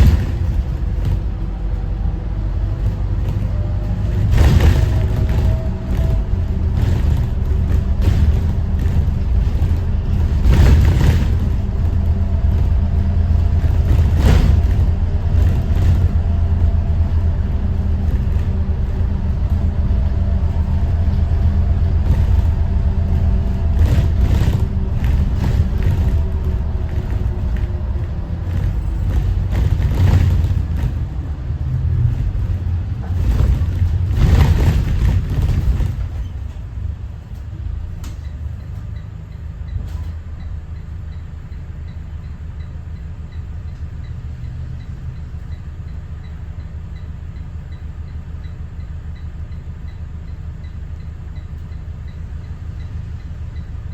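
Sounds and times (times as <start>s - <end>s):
bus body knocking over bumps: 0.0s - 53.9s
bus diesel engine rumbling: 0.0s - 53.9s.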